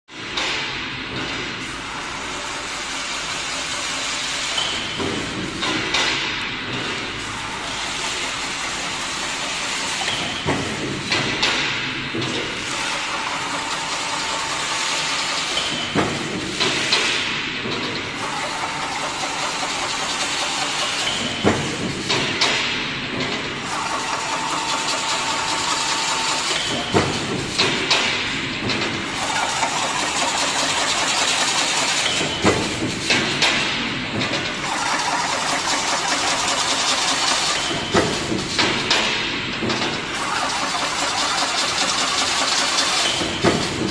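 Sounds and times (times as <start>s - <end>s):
fence weaving machine running: 6.6s - 43.9s.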